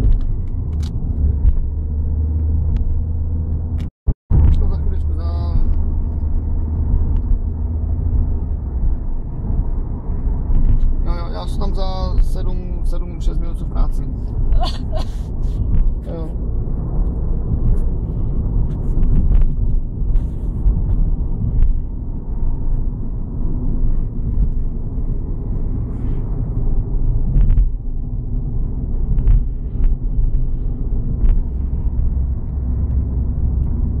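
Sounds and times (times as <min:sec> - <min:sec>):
engine and road rumble: 0:00.0 - 0:34.0.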